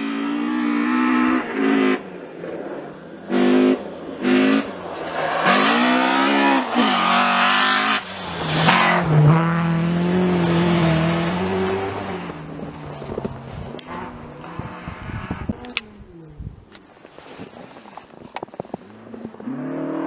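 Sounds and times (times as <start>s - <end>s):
rally car engine revving: 0.0s - 16.6s, 18.8s - 20.0s.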